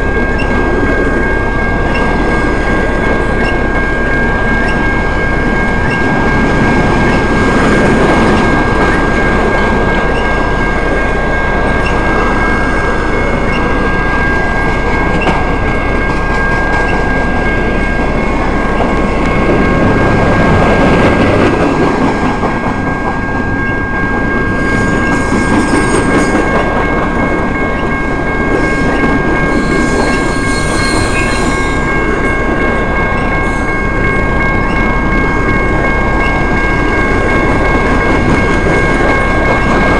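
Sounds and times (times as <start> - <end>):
freight train rumbling past: 0.0 - 39.9
steady high tones: 0.0 - 39.9
wheels clacking over rail joints: 0.0 - 39.9.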